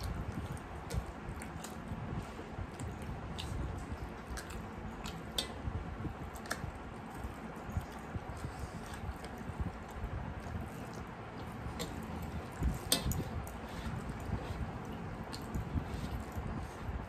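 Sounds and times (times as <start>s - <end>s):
lip smacks: 0.0s - 17.0s
wet chewing and squishing: 0.0s - 17.0s.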